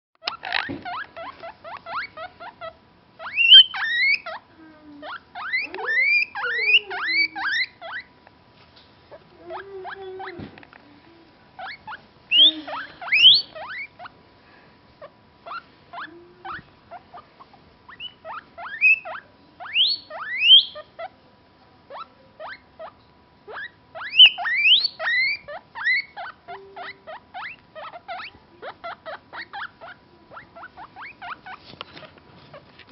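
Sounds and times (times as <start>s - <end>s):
guinea pig squeaking: 0.2s - 8.2s, 9.2s - 10.5s, 11.6s - 14.2s, 15.0s - 21.2s, 21.9s - 32.8s.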